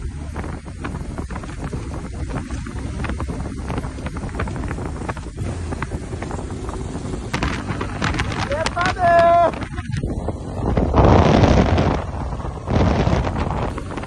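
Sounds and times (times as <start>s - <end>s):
motorcycle engine hum: 0.0s - 14.0s
wind buffeting microphone: 0.0s - 14.0s.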